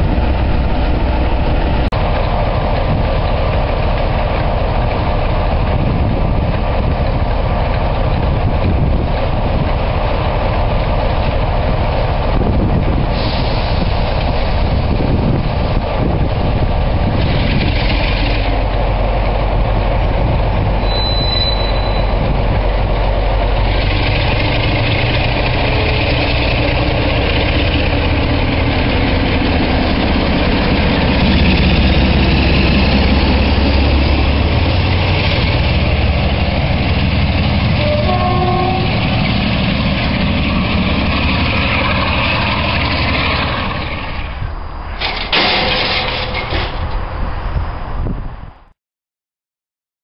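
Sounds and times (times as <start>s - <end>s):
diesel locomotive passing: 0.0s - 48.7s.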